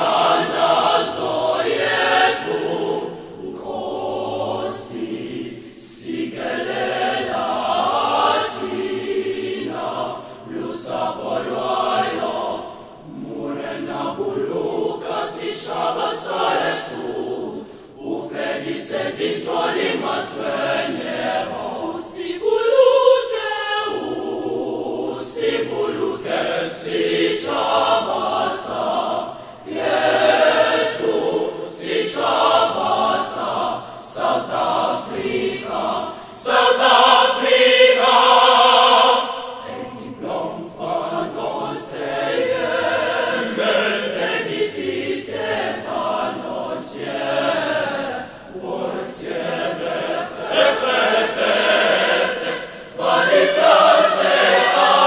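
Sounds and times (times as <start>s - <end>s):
children's choir singing in harmony: 0.0s - 55.0s.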